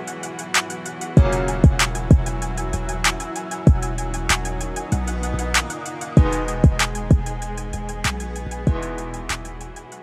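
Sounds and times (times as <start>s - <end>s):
hip hop beat: 0.0s - 10.0s.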